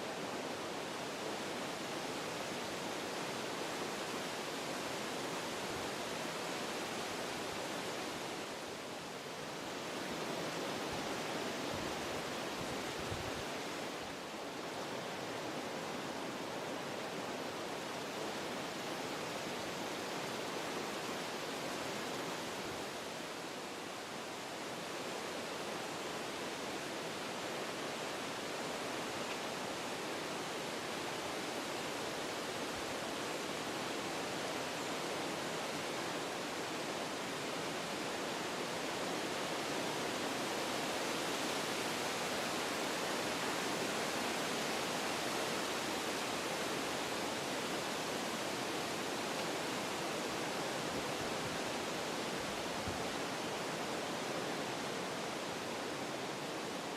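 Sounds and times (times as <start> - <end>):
wind through trees: 0.0 - 56.9.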